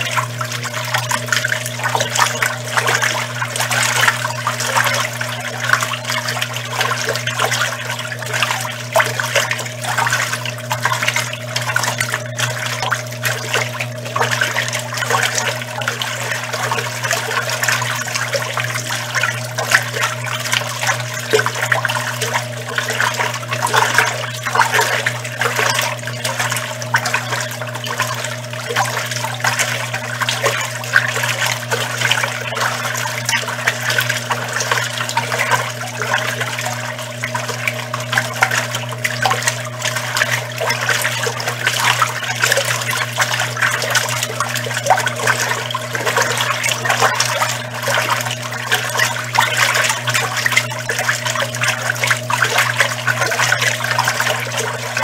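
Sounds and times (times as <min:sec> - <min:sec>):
washing machine motor hum: 0:00.0 - 0:55.0
water churning and sloshing: 0:00.0 - 0:55.0.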